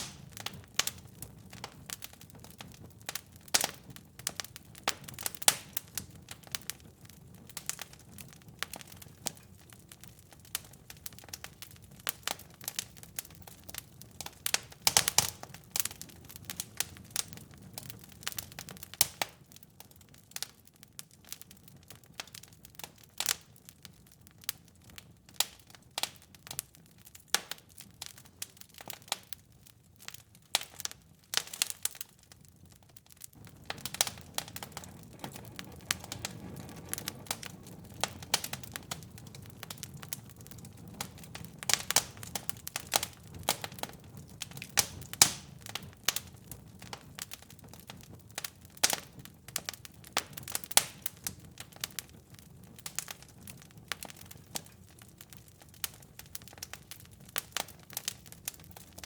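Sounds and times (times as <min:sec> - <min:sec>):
low rushing of flames: 0:00.0 - 0:19.4, 0:30.7 - 0:59.0
fire crackling and popping: 0:00.0 - 0:59.0.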